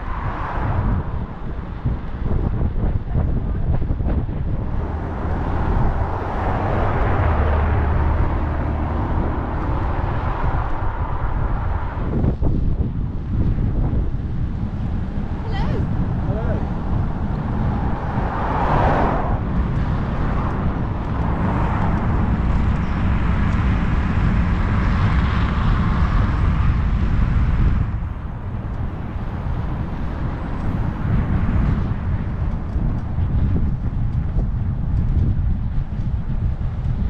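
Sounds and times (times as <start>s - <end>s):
road and traffic noise: 0.0s - 37.0s
wind buffeting microphone: 0.0s - 37.0s.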